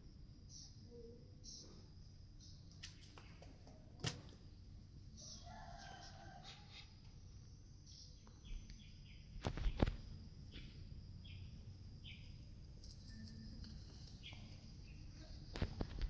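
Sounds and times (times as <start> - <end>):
faint high-pitched hum: 0.0 - 16.0
small birds chirping: 0.4 - 16.0.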